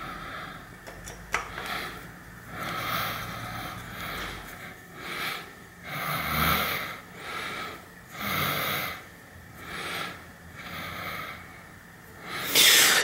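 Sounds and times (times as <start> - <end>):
man breathing heavily through nose: 0.0 - 0.8, 1.5 - 13.0.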